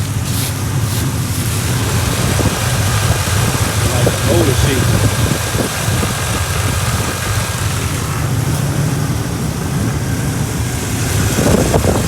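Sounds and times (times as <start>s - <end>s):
rough-idling car engine: 0.0s - 12.0s.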